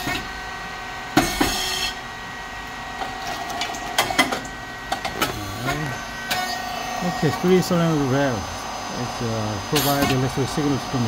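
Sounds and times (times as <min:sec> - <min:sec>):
machine pump motor and fan hum: 0:00.0 - 0:11.0.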